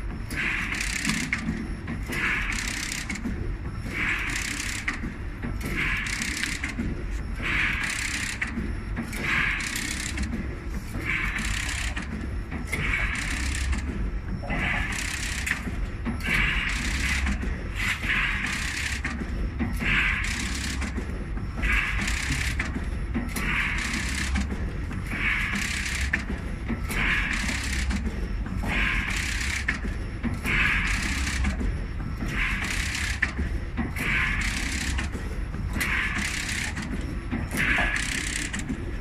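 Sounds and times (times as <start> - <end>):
steady low hum: 0.0 - 39.0
weaving machine rattle: 0.3 - 38.8.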